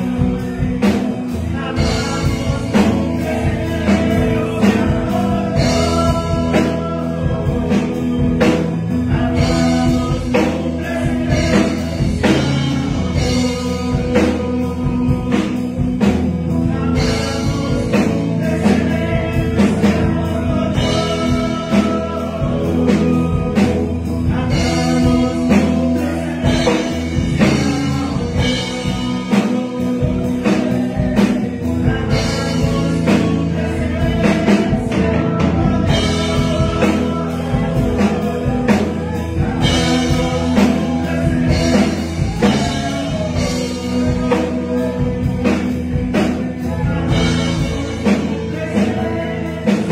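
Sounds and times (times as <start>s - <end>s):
instrumental backing with beat: 0.0s - 49.9s
man singing into a microphone: 0.0s - 49.9s.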